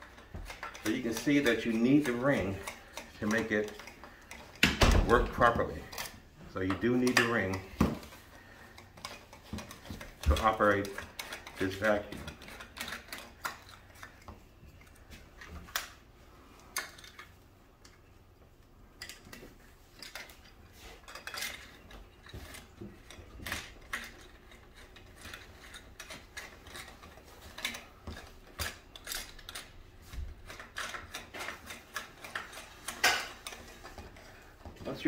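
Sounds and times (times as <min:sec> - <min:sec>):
vacuum wand parts clicking and knocking: 0:00.0 - 0:18.0, 0:19.0 - 0:35.0.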